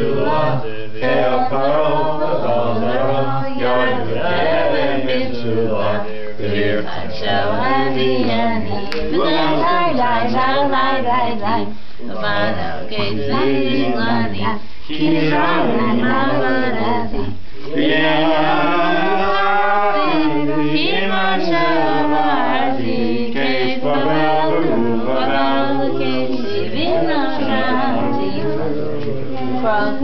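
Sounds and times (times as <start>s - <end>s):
people singing without instruments: 0.0s - 30.0s.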